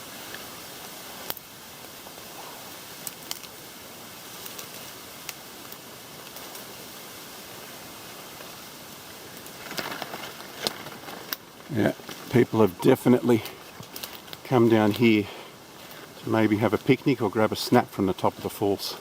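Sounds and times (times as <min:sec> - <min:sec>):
steady outdoor hiss: 0:00.0 - 0:19.0
footsteps rustling through undergrowth: 0:02.8 - 0:19.0.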